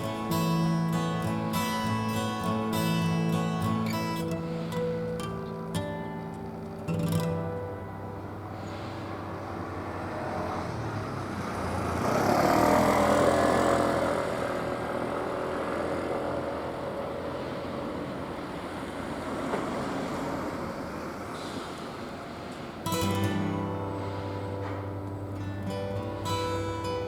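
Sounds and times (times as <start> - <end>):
train passing by: 0.0 - 27.0.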